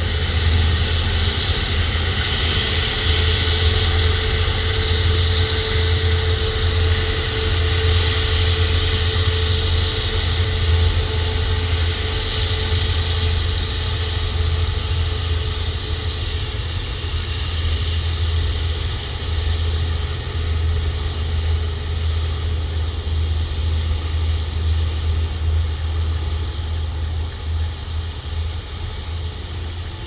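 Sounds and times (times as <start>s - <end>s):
jet engines at takeoff power: 0.0s - 30.0s.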